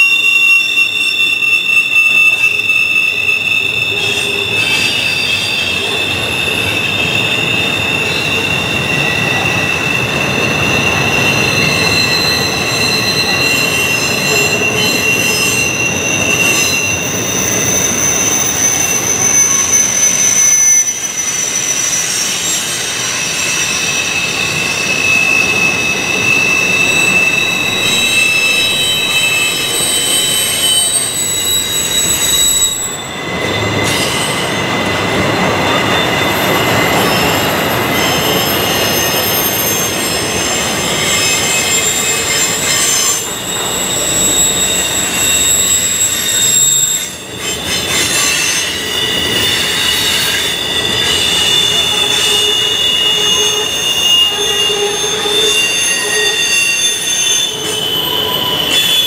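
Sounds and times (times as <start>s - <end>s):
rumble and clatter of train cars: 0.0s - 59.0s
train wheels squealing on rails: 0.0s - 59.0s.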